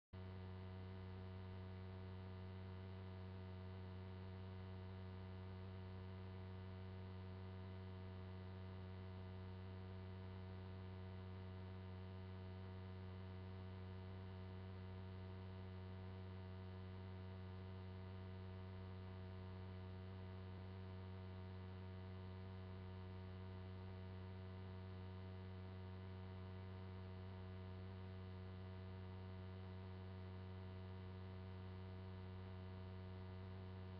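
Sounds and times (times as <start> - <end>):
buzzy electrical mains hum: 0.2 - 33.9.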